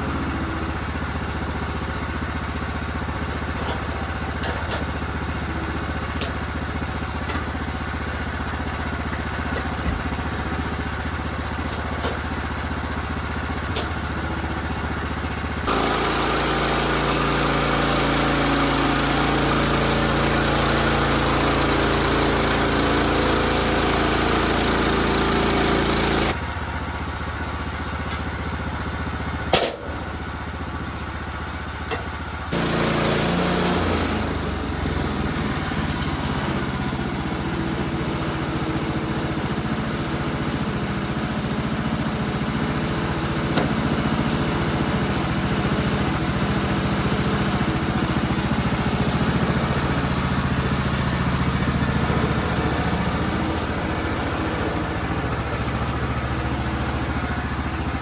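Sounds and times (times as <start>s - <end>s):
sawmill gasoline engine running: 0.0s - 58.0s.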